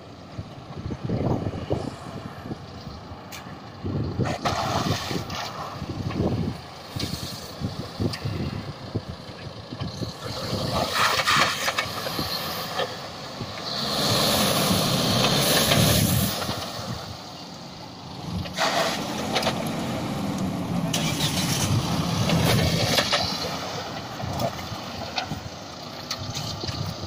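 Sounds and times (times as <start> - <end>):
diesel engine running at low revs: 0.0 - 27.0.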